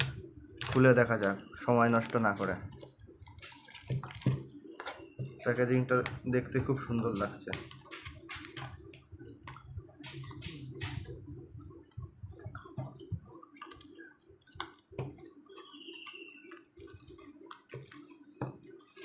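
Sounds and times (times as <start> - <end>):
packaging clicks taps and rustles: 0.0 - 19.0.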